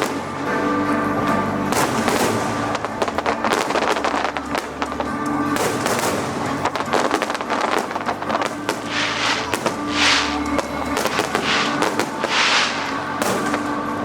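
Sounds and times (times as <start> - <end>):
fireworks bursting and crackling: 0.0 - 14.0
music with held tones: 0.0 - 14.0.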